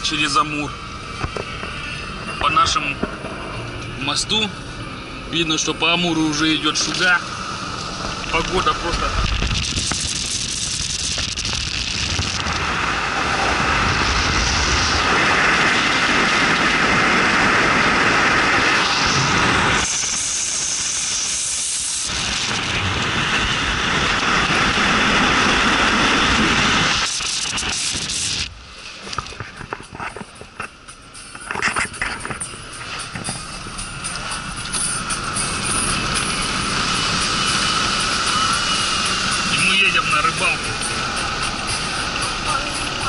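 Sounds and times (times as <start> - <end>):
car tyre and road noise: 0.0 - 43.0
wind rushing over microphone: 0.0 - 43.0.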